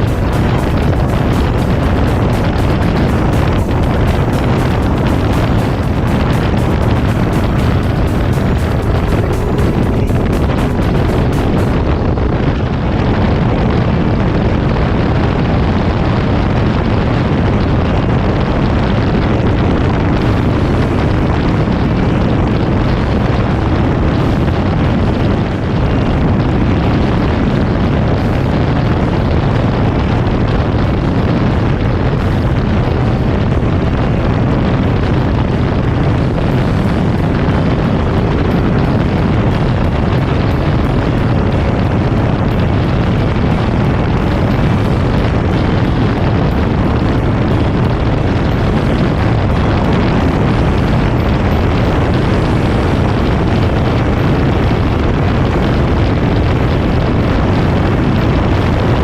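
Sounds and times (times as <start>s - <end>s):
motorcycle riding: 0.0s - 12.9s, 15.5s - 59.0s.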